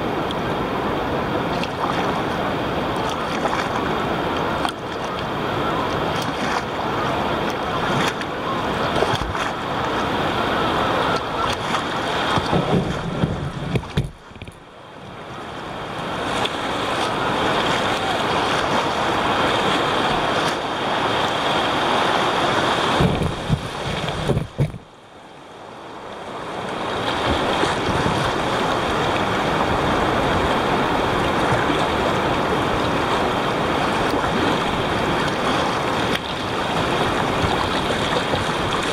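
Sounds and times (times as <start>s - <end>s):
river rapids rushing: 0.0s - 13.9s, 14.6s - 38.9s
wind on microphone: 0.0s - 14.6s, 16.0s - 24.9s, 26.8s - 38.9s.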